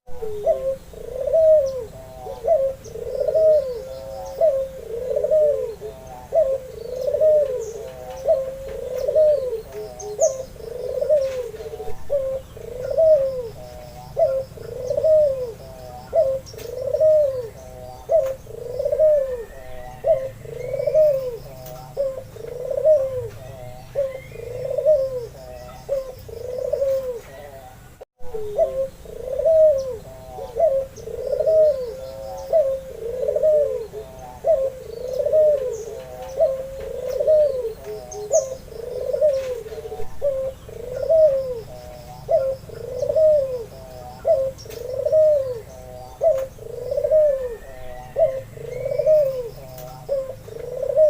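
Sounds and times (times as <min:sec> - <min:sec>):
dove cooing: 0:00.0 - 0:51.0
small birds chirping: 0:00.1 - 0:51.0.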